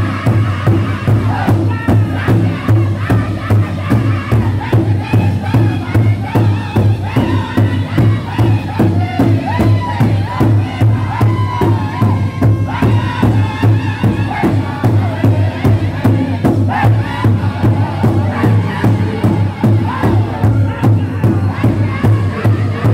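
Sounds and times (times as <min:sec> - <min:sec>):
large hand drum beating: 0:00.0 - 0:22.9
men singing in unison: 0:00.0 - 0:22.9.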